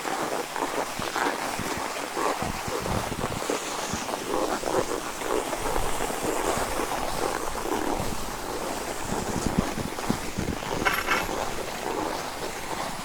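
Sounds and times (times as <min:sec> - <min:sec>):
skis sliding over packed snow: 0:00.0 - 0:13.0.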